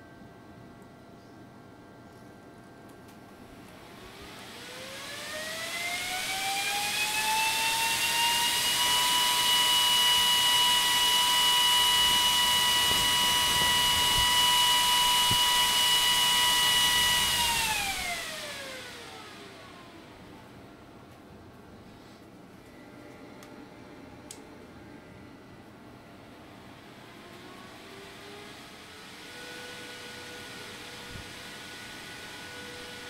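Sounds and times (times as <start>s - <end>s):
fan whining: 2.7s - 33.0s.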